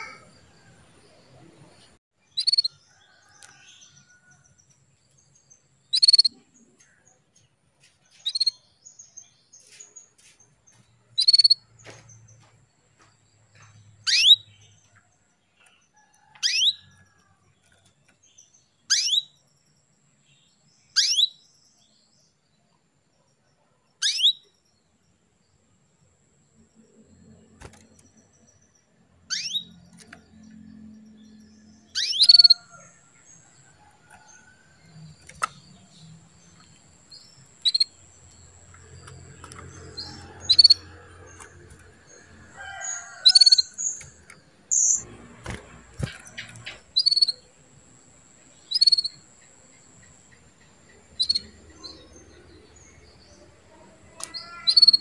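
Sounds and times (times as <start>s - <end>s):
canary chirps: 0.0s - 0.7s, 1.3s - 12.5s, 13.7s - 19.5s, 20.2s - 21.7s, 24.0s - 24.7s, 27.4s - 55.0s.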